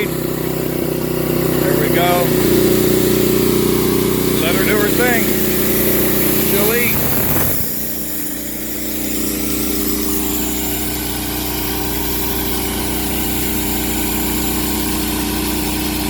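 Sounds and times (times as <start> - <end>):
saw cutting through log: 0.0 - 16.0
sawmill engine running: 0.0 - 16.0.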